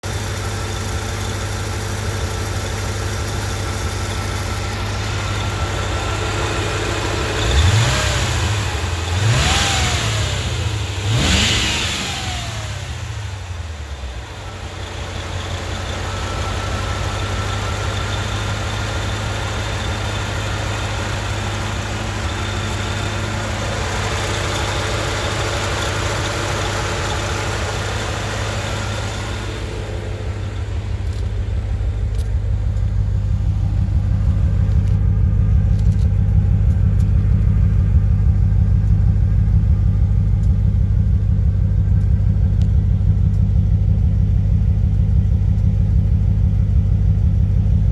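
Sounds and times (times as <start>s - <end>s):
car engine idling with misfire: 0.0s - 47.9s.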